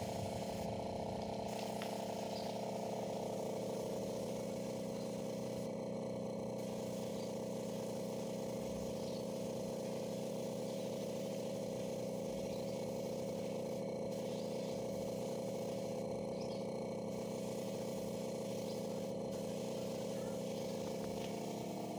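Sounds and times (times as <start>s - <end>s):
air compressor humming: 0.0s - 21.9s
spray gun hiss: 0.0s - 21.9s.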